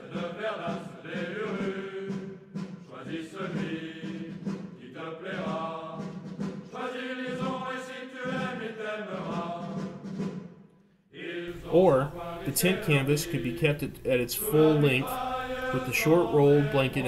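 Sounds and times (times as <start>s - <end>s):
chanted choral singing: 0.0s - 10.0s, 11.1s - 17.0s.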